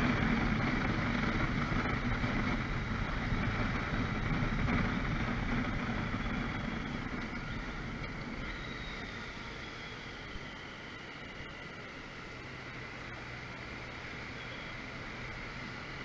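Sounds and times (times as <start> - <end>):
motorbike engine idling: 0.0 - 16.0.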